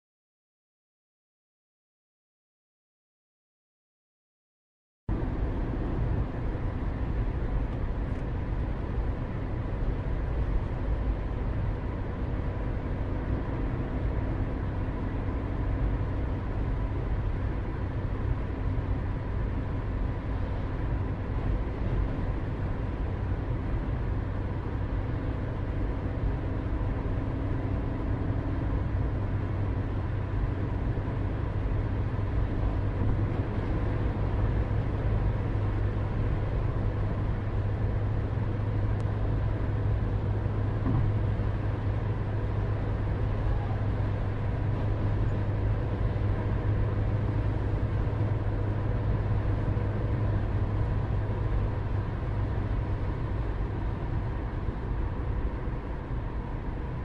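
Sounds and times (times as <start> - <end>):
low mechanical rumble: 5.1 - 57.0.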